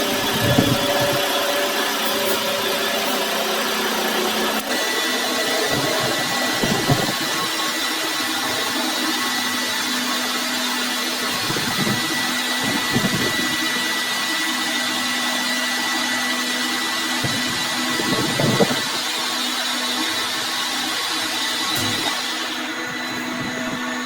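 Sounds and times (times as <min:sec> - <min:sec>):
machine motor whine and hum: 0:00.0 - 0:24.0.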